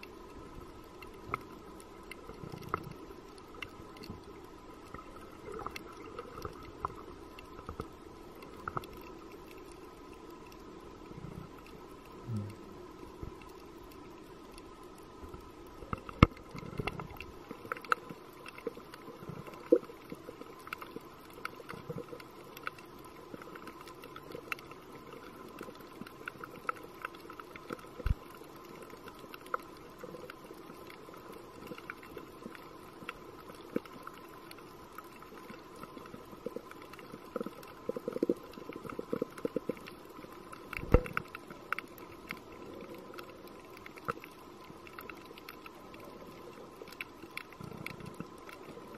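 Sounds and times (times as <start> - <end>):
low hiss: 0.0 - 48.9
sharp clicks and crackles: 0.0 - 48.9.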